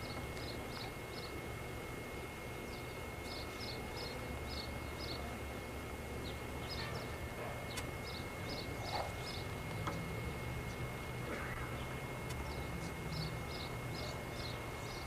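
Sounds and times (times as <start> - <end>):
small birds chirping: 0.0 - 1.4, 2.6 - 15.0.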